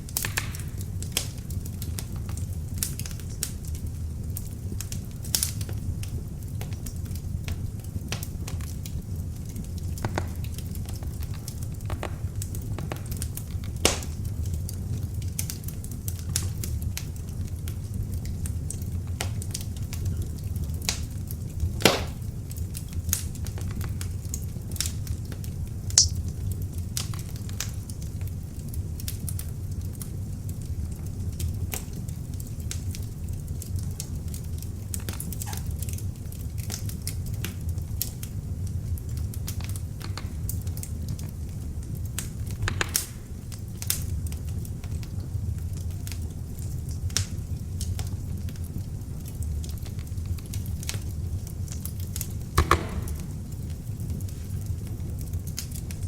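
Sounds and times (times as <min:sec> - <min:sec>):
log fire crackling and popping: 0:00.0 - 0:56.0.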